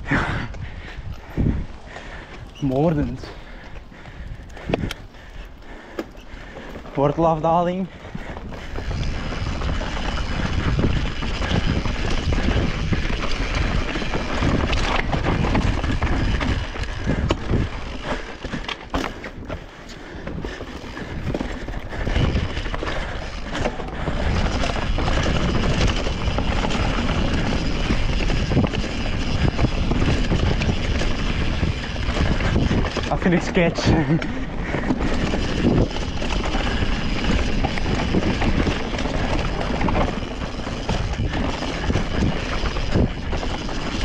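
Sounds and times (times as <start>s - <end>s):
bike rattling over roots: 0.0s - 44.0s
bike tyres rumbling on trail: 0.0s - 44.0s.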